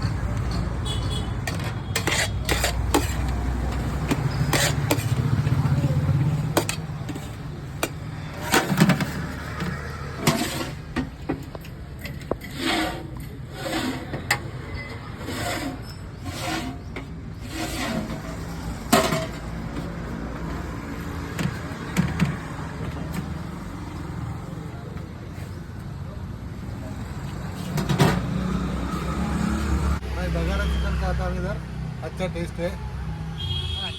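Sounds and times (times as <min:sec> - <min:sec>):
street traffic: 0:00.0 - 0:33.9.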